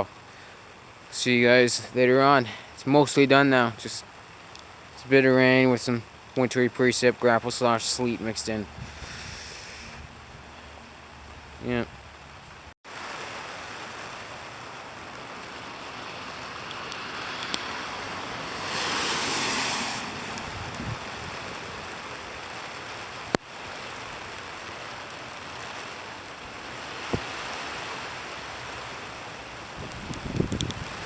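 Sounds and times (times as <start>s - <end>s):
rain and sleet falling with wind: 0.0s - 31.0s.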